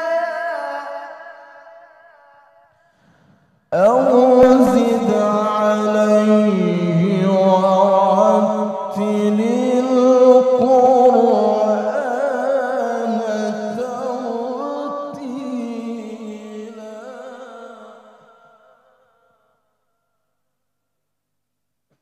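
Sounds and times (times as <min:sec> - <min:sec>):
man reciting melodically: 0:00.0 - 0:02.6, 0:03.7 - 0:19.0.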